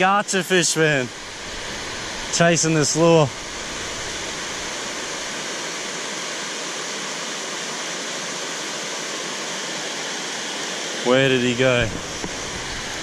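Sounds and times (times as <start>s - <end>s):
river water pouring through weir: 0.0s - 13.0s.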